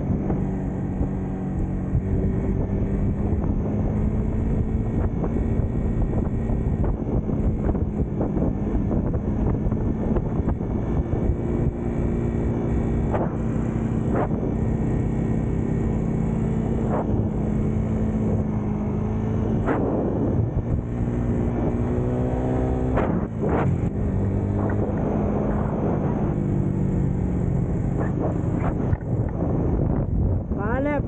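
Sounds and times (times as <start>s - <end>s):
small motorcycle engine running: 0.0s - 31.0s
wind rushing over microphone: 0.0s - 31.0s.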